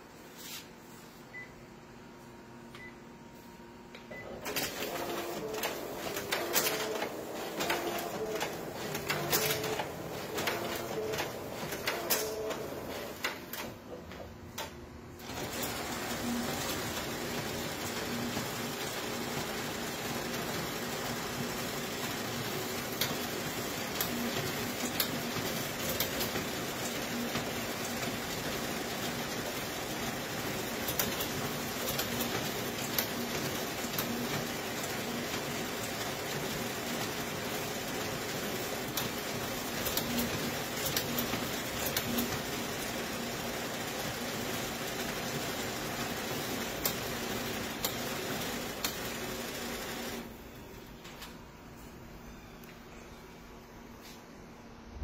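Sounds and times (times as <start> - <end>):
copier whirring: 2.2 - 54.3
copier clicks: 4.0 - 50.3.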